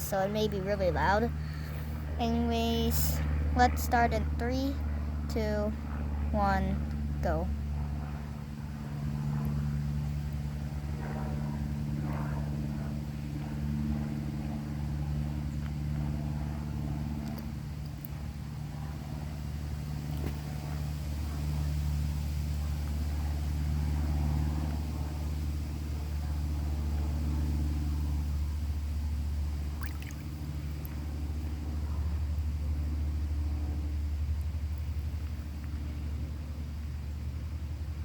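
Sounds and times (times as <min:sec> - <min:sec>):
low mechanical drone: 0:00.0 - 0:38.0.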